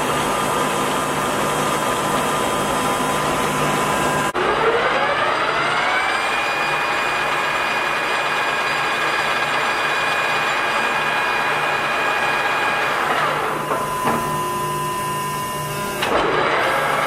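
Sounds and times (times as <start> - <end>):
lathe gear whine: 0.0 - 17.0.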